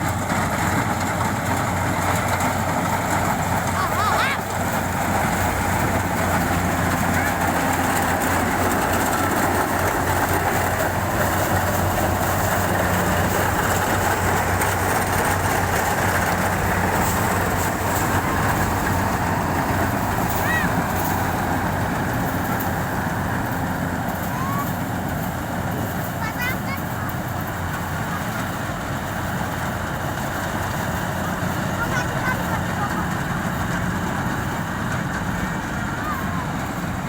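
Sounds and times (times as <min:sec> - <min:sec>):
harvesting machine engine running: 0:00.0 - 0:37.0.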